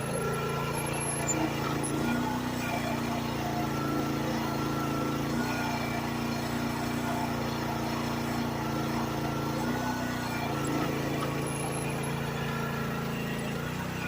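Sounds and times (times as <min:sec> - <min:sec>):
excavator engine running: 0:00.0 - 0:14.0
faint whine: 0:00.0 - 0:14.0.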